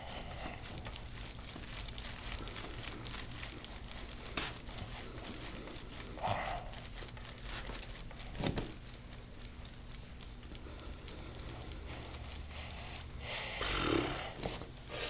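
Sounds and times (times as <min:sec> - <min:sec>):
hands rubbing skin: 0:00.0 - 0:15.0.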